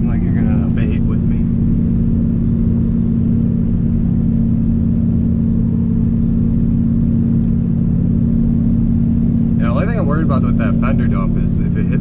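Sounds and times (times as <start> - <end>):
truck engine cruising: 0.0 - 12.0.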